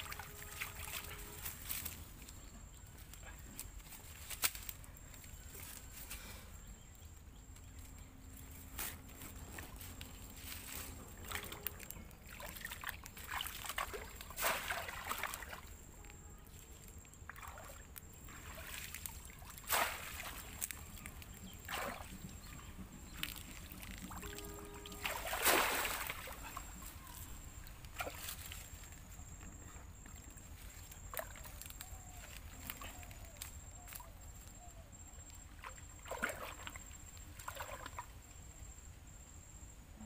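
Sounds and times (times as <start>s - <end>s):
water splashing and sloshing: 0.0s - 4.8s, 8.3s - 38.5s.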